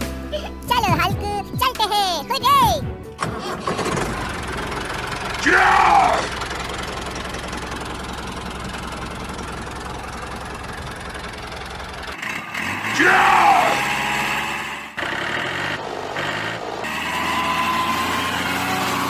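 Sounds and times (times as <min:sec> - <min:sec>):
small engine running: 0:03.2 - 0:19.0.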